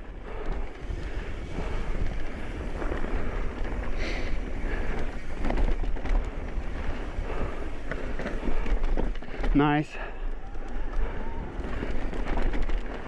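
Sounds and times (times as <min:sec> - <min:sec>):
wind buffeting microphone: 0:00.0 - 0:09.5, 0:10.1 - 0:13.0
bike rattling: 0:00.0 - 0:13.0.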